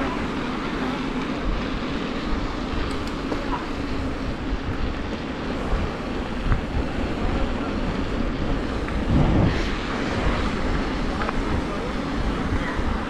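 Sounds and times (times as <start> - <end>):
bike tyres rolling on pavement: 0.0 - 13.0
wind on microphone: 0.0 - 13.0.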